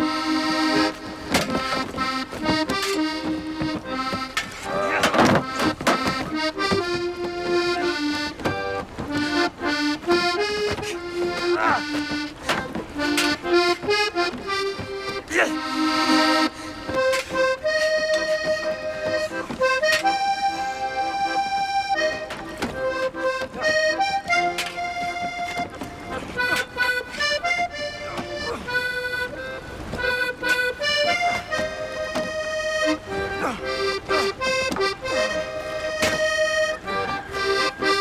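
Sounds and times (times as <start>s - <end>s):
accordion playing lively melody: 0.0s - 38.0s.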